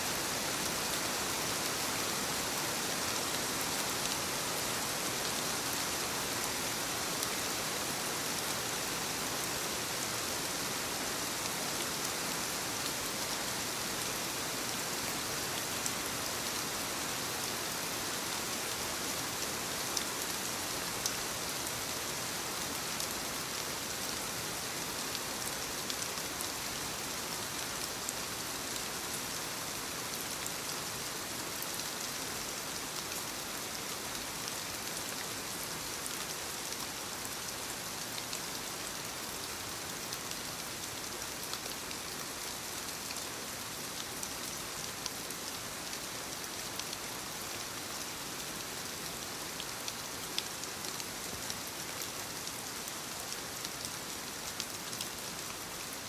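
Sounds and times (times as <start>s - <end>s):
light rain on leaves: 0.0s - 56.0s.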